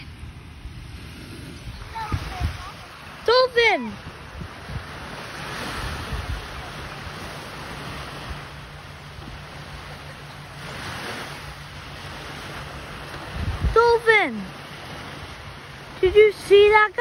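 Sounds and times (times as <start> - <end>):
wind rumbling on microphone: 0.0 - 16.2
small waves washing onto sand: 0.0 - 17.0.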